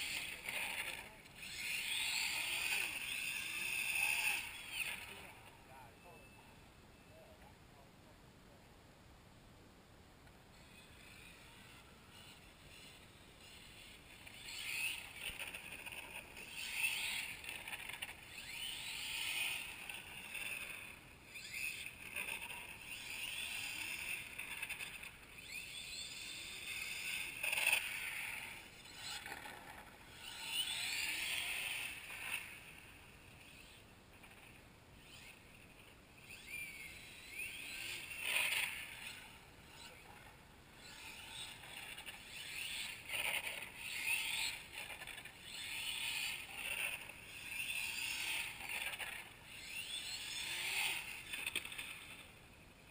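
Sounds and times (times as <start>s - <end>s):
model car motor whining: 0.0s - 6.2s, 10.5s - 52.9s.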